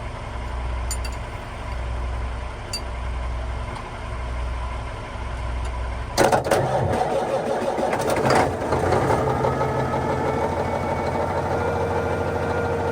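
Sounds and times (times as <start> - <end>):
truck engine running: 0.0 - 12.9.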